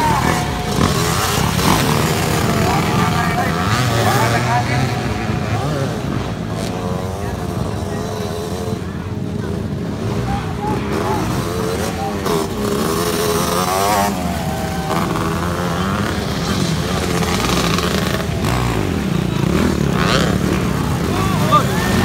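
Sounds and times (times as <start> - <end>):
continuous engine drone: 0.0 - 22.0
dirt bike engines revving: 0.0 - 22.0.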